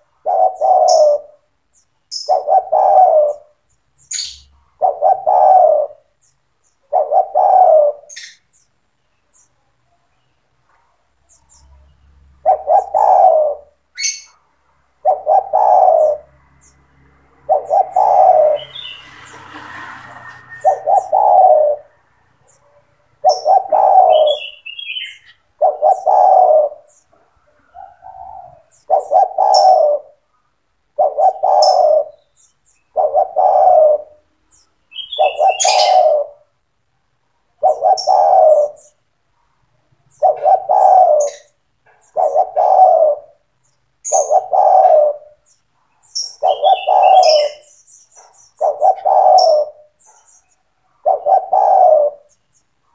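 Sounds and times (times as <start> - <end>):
dove cooing: 0.0 - 8.7, 11.2 - 14.4, 15.0 - 36.6, 37.5 - 39.2, 40.1 - 52.7
small birds chirping: 0.0 - 52.9.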